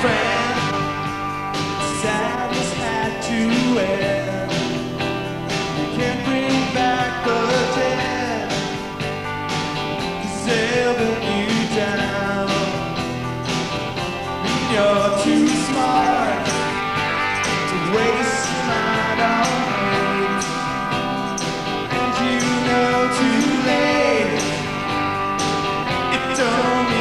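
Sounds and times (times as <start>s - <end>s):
guitar-led instrumental: 0.0s - 27.0s
rock band music: 0.0s - 27.0s.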